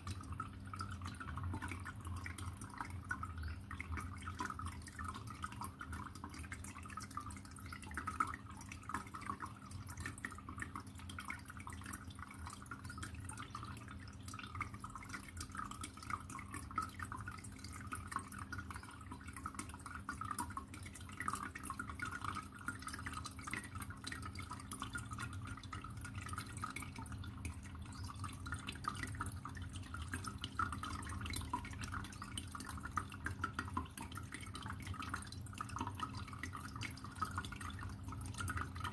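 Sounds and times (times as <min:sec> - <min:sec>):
low steady hum: 0:00.0 - 0:38.9
water trickling and dripping: 0:00.0 - 0:38.9.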